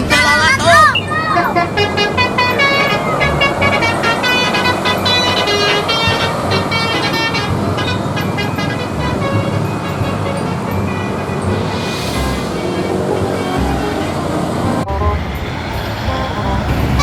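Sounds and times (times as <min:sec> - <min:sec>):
multi-tone horn melody: 0:00.0 - 0:15.4.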